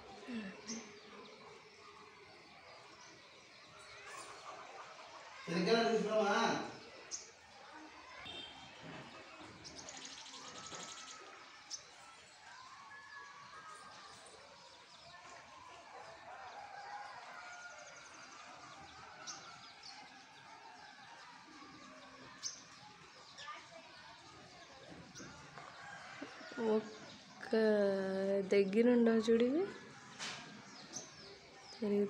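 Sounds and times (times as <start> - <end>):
small birds chirping and twittering: 0.0 - 32.0.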